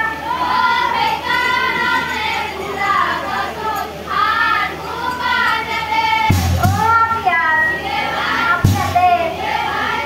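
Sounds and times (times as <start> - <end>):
young women singing a devotional chant: 0.0 - 10.0.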